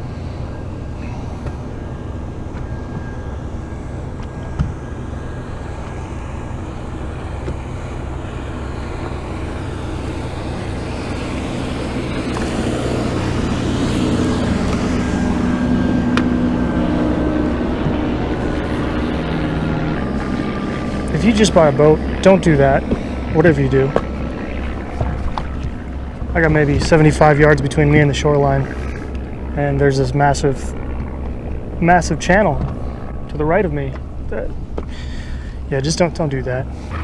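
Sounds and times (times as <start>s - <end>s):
motorboat engine droning: 0.0s - 37.0s
wind: 0.0s - 37.0s.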